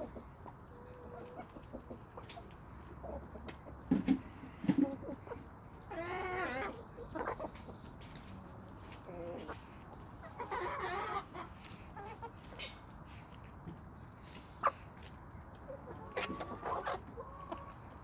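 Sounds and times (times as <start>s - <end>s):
chickens calling: 0.0s - 18.0s
chickens clucking: 0.0s - 18.0s.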